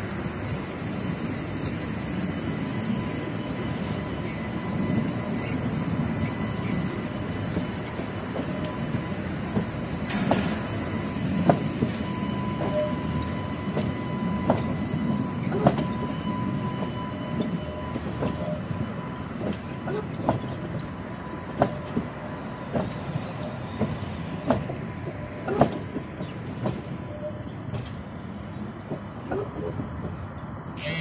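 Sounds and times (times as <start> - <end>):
tram rumbling: 0.0 - 31.0.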